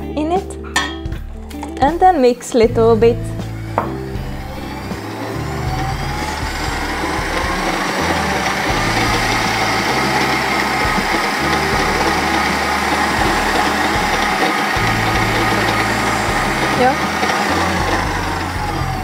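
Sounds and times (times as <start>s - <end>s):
stand mixer motor whine: 3.1s - 19.0s.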